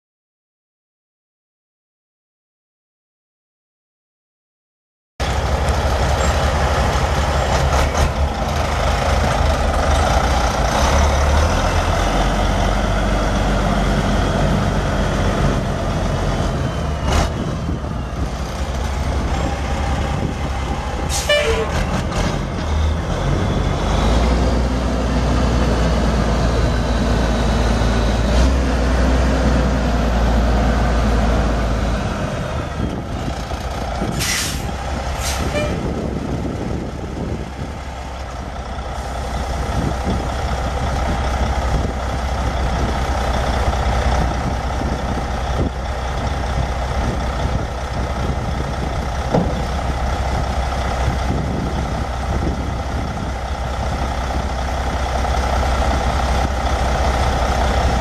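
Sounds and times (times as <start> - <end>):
diesel truck engine rumbling: 5.2 - 58.0.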